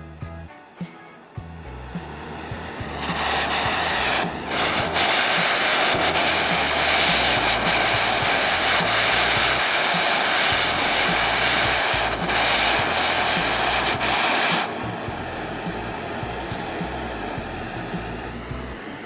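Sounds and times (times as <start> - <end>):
gas torch hissing: 1.2 - 19.0.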